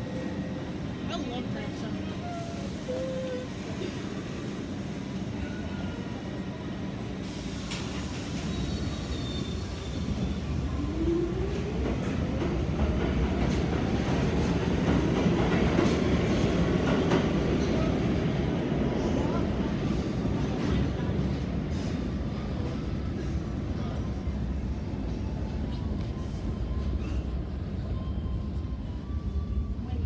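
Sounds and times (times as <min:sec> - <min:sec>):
subway train rumble and clatter: 0:00.0 - 0:30.0.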